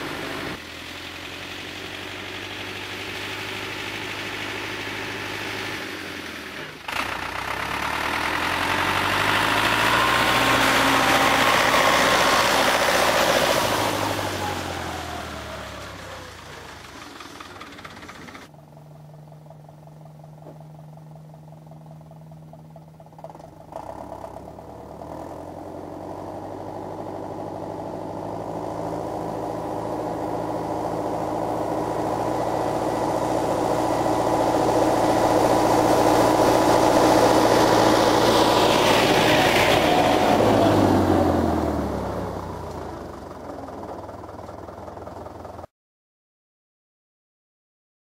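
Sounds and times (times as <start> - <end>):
tractor diesel engine passing: 0.0 - 45.7.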